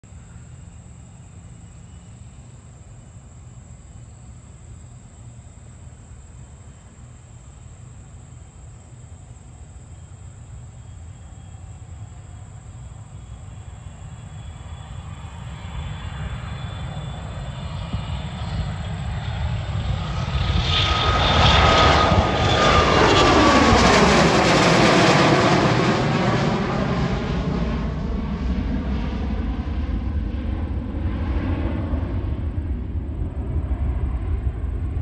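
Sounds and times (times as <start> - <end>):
distant jet engine rumble: 0.0 - 35.0.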